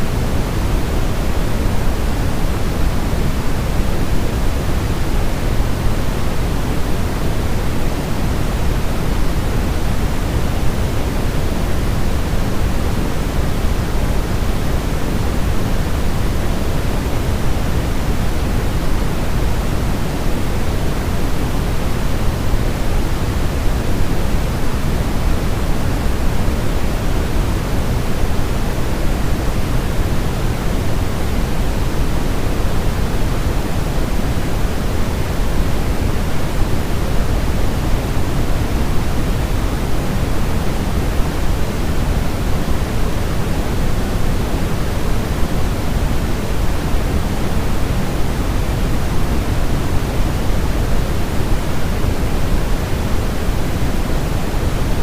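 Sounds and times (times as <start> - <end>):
steady white noise: 0.0 - 55.0.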